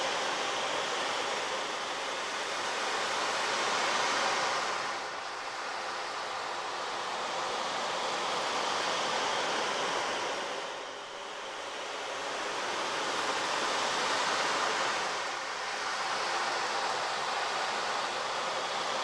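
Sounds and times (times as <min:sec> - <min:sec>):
surf-like rushing noise: 0:00.0 - 0:19.0.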